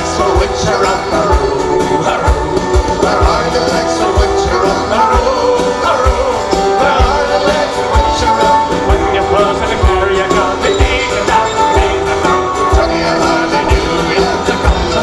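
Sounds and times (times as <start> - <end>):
bass drum beat: 0.0 - 15.0
harmonica melody: 0.0 - 15.0
strummed guitars: 0.0 - 15.0.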